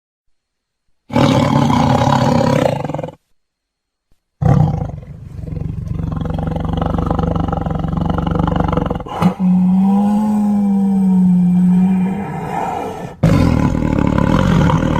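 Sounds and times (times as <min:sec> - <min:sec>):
big cat roaring: 0:01.1 - 0:03.2, 0:04.4 - 0:14.9.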